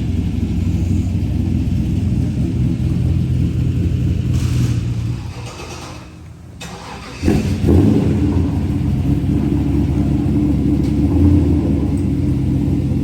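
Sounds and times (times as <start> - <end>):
engine idling with lumpy rumble: 0.0 - 13.0.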